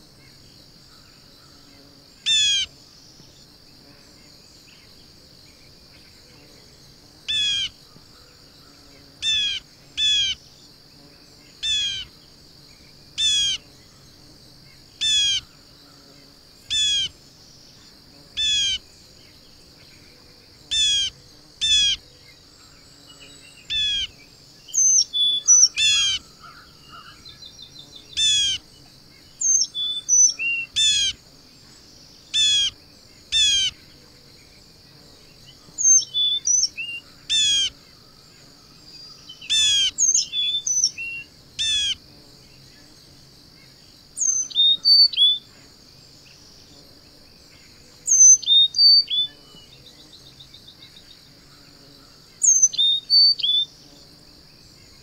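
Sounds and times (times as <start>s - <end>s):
songbirds calling: 0.0s - 3.5s, 4.6s - 12.4s, 13.2s - 43.0s, 43.6s - 55.0s
high insect drone: 0.0s - 55.0s.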